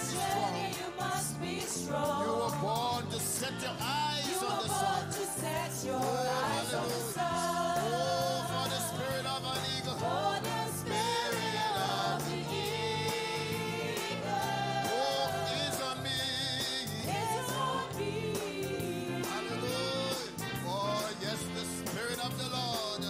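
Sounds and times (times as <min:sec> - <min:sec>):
repeating bass line: 0:00.0 - 0:22.4
gospel choir singing: 0:00.0 - 0:23.0.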